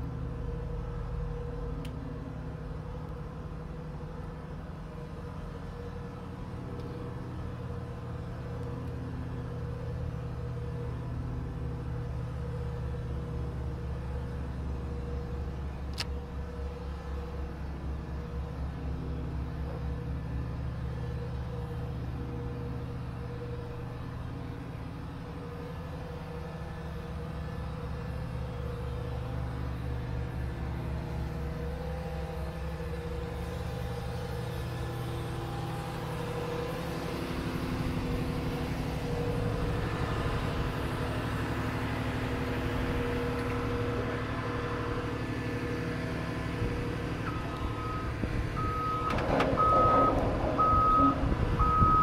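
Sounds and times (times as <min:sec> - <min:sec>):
machine droning: 0:00.0 - 0:52.0.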